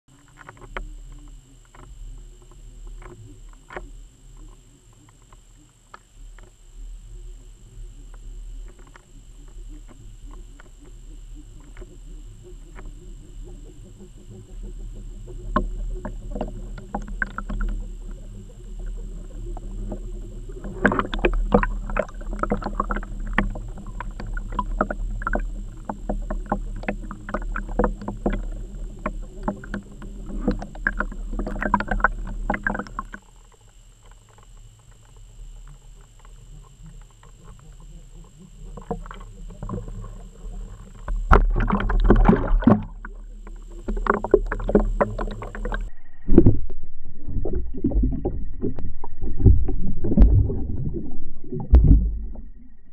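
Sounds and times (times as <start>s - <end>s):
low underwater hum: 0.0s - 52.9s
faint high whine: 0.1s - 52.9s
underwater crackling and knocking: 8.0s - 52.7s.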